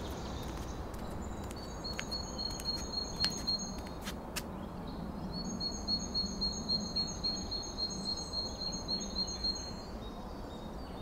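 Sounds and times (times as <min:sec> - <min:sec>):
small bird chirping: 0:00.0 - 0:04.0, 0:04.6 - 0:11.0.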